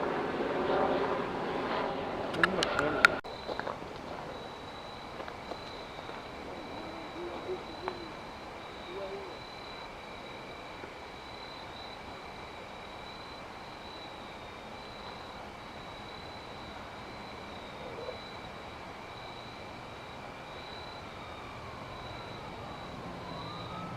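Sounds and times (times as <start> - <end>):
high-pitched insect trill: 3.3 - 23.9.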